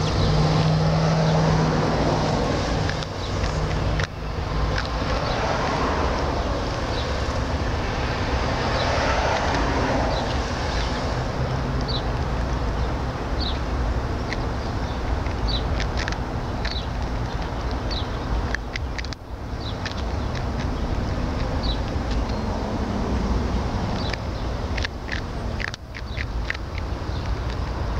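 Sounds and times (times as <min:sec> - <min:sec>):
outdoor rumble and hiss: 0:00.0 - 0:27.9.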